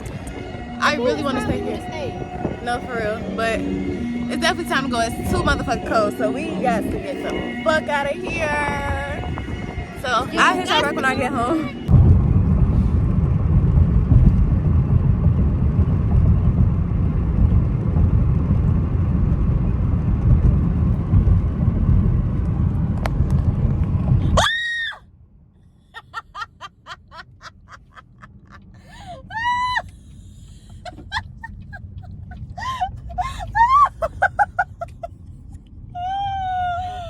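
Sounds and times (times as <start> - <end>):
loud low rumbling: 0.0 - 37.0.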